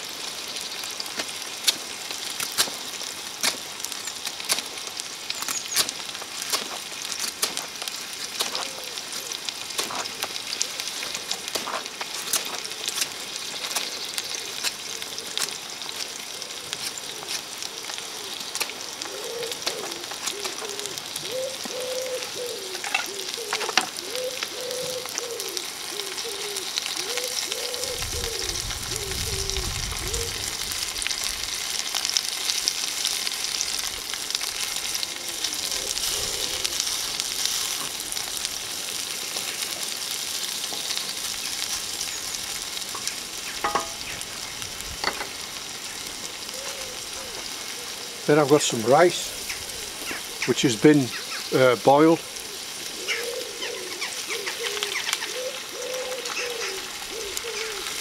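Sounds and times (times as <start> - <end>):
vegetables sizzling in a pan: 0.0 - 58.0.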